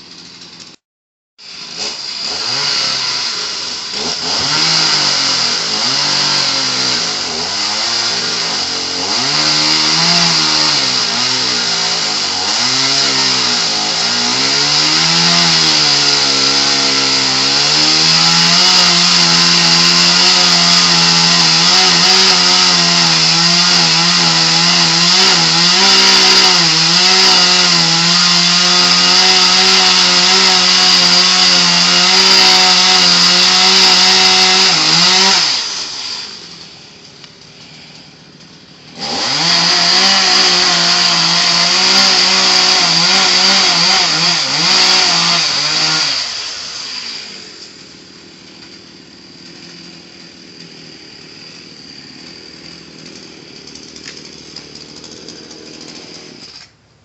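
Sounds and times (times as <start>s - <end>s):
chainsaw running: 0.0s - 0.8s, 1.4s - 56.8s.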